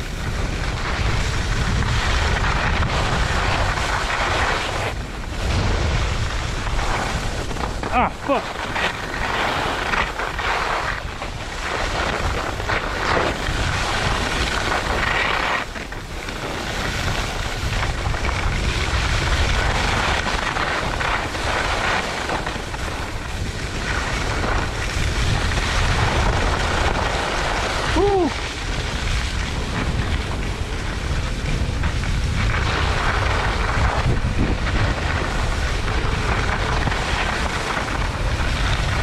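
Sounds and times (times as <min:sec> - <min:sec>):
skis scraping on snow: 0:00.0 - 0:39.0
wind buffeting microphone: 0:00.0 - 0:39.0.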